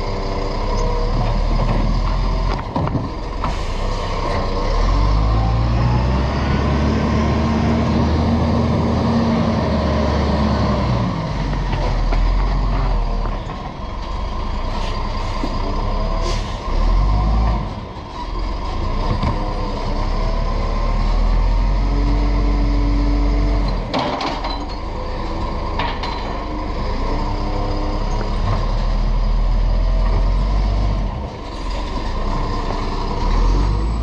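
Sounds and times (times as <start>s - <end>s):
garbage truck diesel engine: 0.0s - 34.0s.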